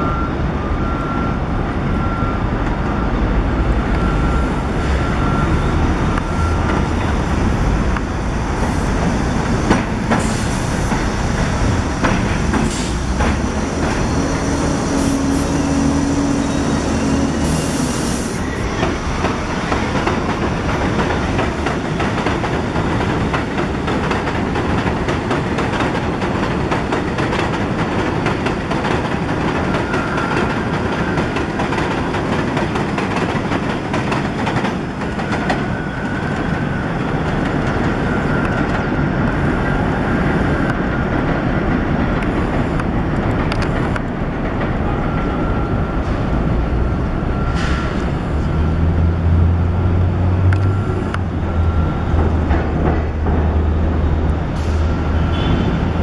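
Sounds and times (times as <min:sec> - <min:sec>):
low hum of approaching train: 0:00.0 - 0:56.0
train wheels clattering over rails: 0:06.1 - 0:39.4, 0:40.7 - 0:56.0.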